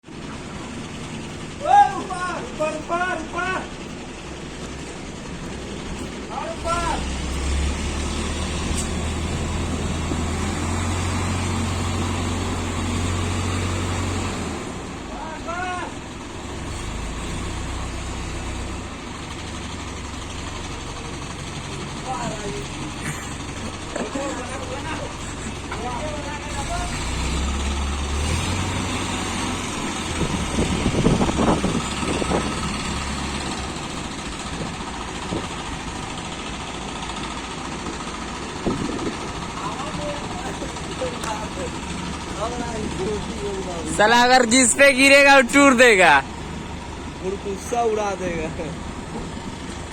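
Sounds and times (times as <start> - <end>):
diesel engine droning: 0.0 - 49.9.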